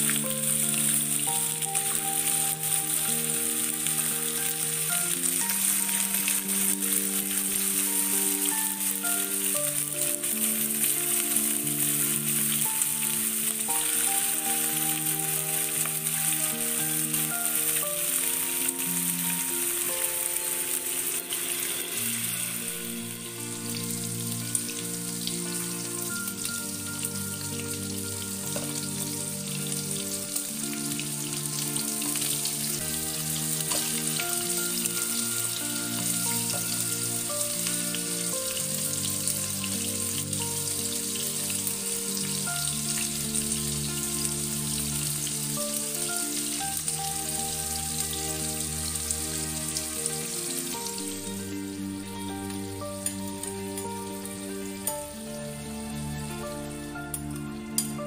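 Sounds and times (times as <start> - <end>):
background music of held chords: 0.0 - 58.0
food sizzling in hot oil: 0.0 - 58.0.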